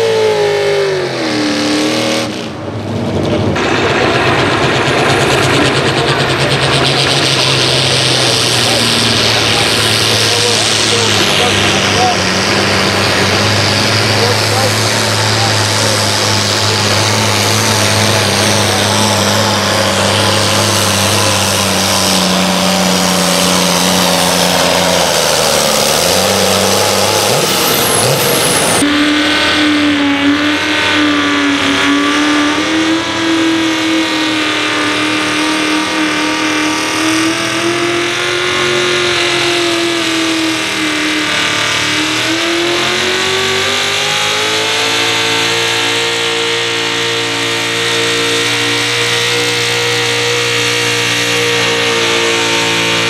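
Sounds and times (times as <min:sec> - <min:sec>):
pickup engine under load: 0:00.0 - 0:53.0
tractor engine under load: 0:00.0 - 0:53.0.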